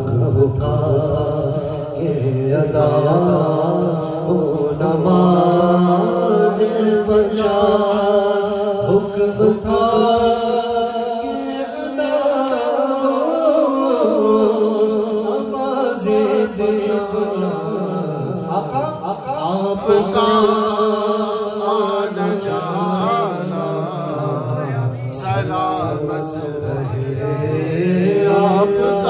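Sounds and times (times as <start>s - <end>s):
man chanting into a microphone: 0.0s - 29.0s.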